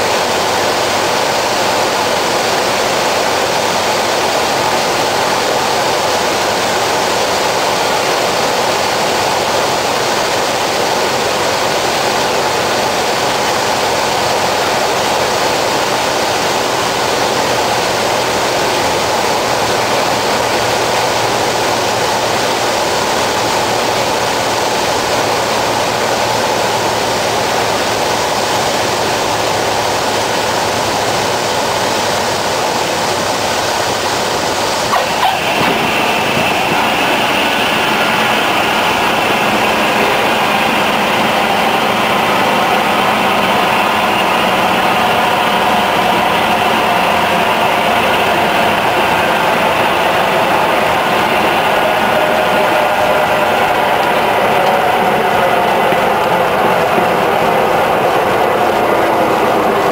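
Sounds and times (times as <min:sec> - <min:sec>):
rushing air: 0:00.0 - 0:59.9
small plane engine drone: 0:00.0 - 0:59.9.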